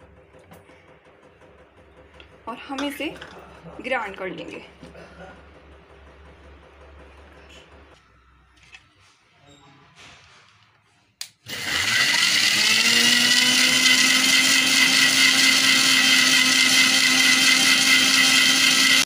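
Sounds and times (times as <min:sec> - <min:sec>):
mixer grinder motor whining: 0:00.0 - 0:08.1, 0:11.4 - 0:19.0.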